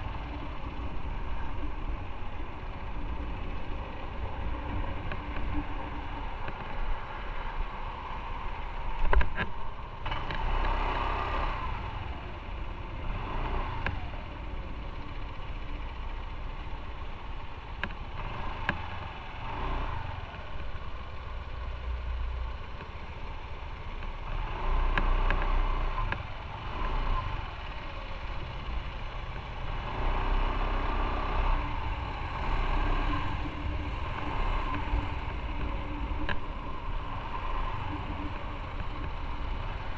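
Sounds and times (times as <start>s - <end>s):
motorcycle running: 0.0s - 39.9s
passing traffic: 0.0s - 39.9s
wind rumble: 0.0s - 39.9s.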